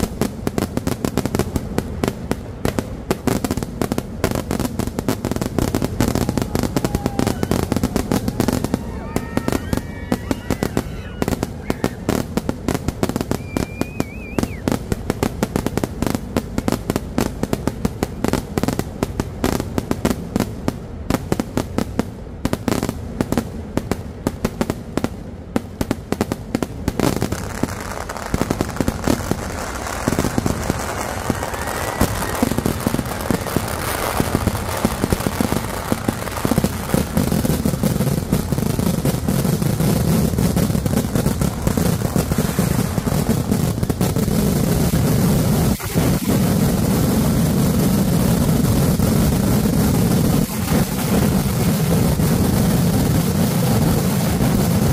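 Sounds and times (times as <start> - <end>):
firecracker bangs and crackle: 0.0 - 54.9.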